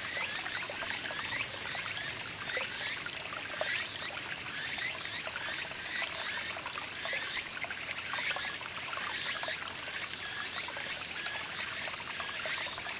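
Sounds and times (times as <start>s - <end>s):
insects trilling: 0.0s - 12.9s
stream trickling and gurgling: 0.0s - 12.9s.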